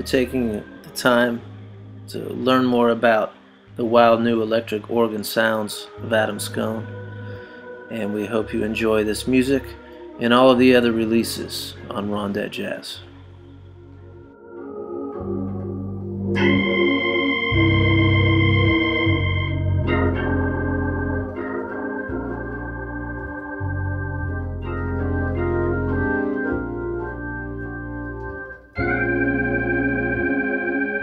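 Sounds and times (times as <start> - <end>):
organ playing held chords: 0.0 - 31.0.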